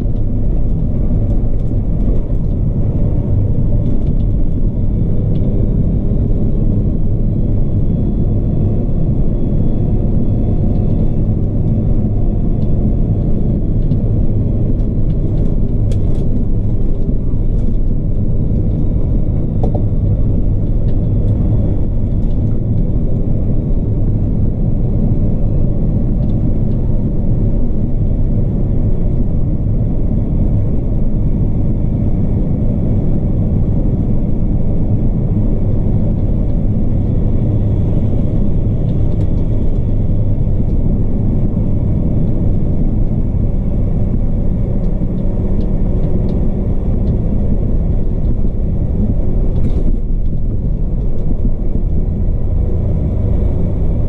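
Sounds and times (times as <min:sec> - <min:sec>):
truck diesel engine rumbling: 0:00.0 - 0:54.0.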